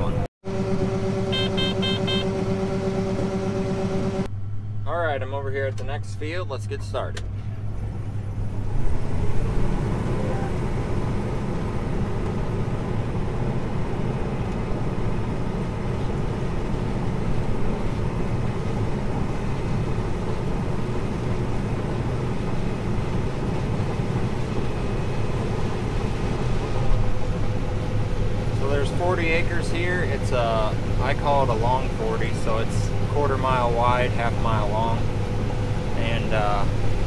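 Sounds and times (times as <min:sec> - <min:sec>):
combine harvester drone: 0:00.0 - 0:37.0.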